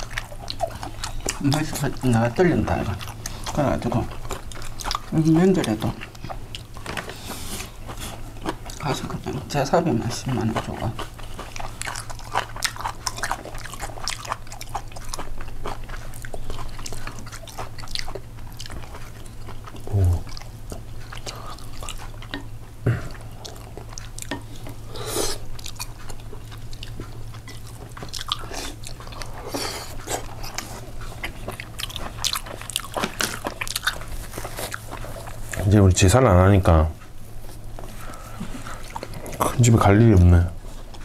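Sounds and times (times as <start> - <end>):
chewing and crunching: 0.0 - 41.0
steady low hum: 0.0 - 41.0.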